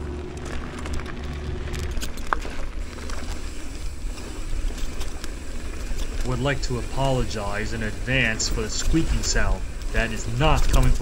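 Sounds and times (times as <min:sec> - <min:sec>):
bike tyre rumble: 0:00.0 - 0:11.0
small clicks and rattles: 0:00.0 - 0:11.0
wind buffeting: 0:00.0 - 0:11.0.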